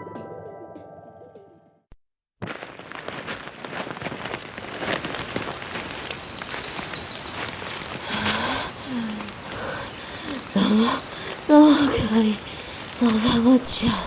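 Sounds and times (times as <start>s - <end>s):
crackling rustle: 2.4s - 14.0s.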